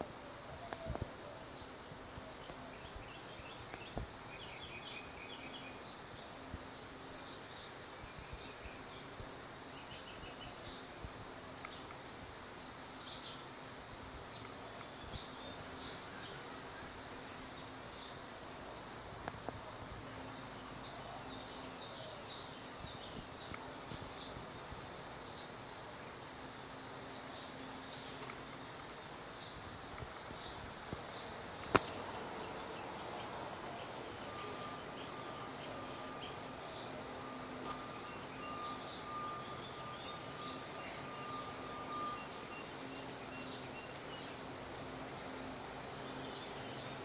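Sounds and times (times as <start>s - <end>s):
outdoor background hiss: 0.0s - 47.0s
small birds chirping: 0.7s - 18.5s, 19.2s - 47.0s.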